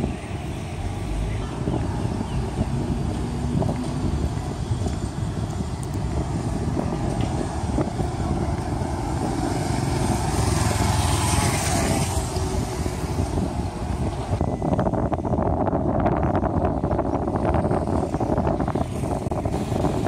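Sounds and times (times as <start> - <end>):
motorcycles passing: 0.0 - 20.0
road traffic rumble: 0.0 - 20.0.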